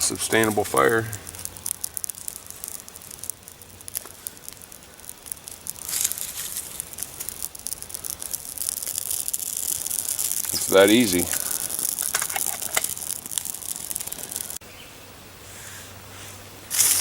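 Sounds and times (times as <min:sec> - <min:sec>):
fire crackling and popping: 0:00.0 - 0:14.6, 0:16.6 - 0:17.0.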